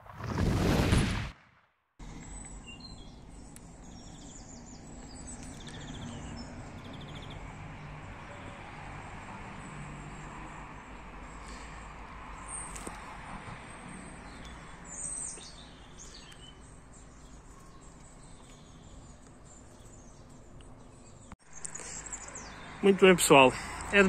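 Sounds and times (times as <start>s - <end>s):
small birds chirping: 2.0s - 24.0s.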